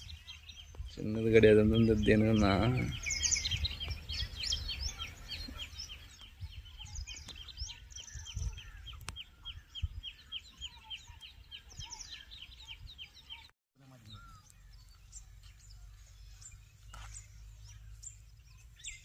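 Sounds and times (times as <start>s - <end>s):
bird chirping: 0.0s - 19.0s
bird chirps and trills: 0.0s - 19.0s.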